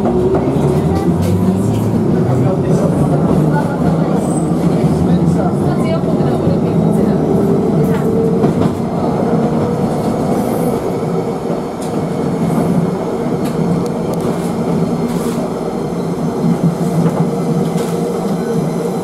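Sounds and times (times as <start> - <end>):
tram hum: 0.0 - 19.0
wheels rumbling on rails: 0.0 - 19.0.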